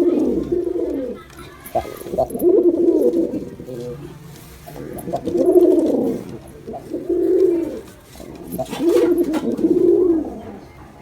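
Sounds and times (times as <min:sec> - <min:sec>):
pigeon cooing: 0:00.0 - 0:10.8.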